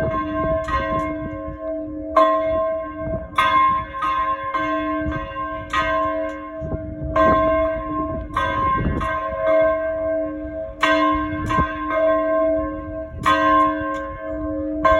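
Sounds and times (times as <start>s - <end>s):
church bell ringing: 0.0s - 14.9s.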